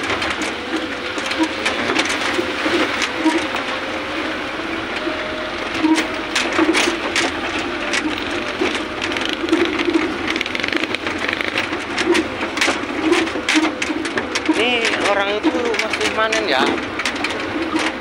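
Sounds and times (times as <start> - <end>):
rattles and knocks: 0.0 - 3.9, 5.7 - 18.0
vehicle driving on rough road: 0.0 - 18.0.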